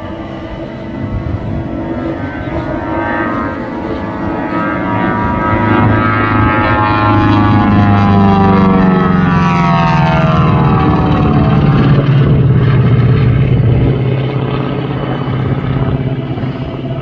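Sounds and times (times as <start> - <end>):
twin propeller engines droning: 0.0 - 17.0.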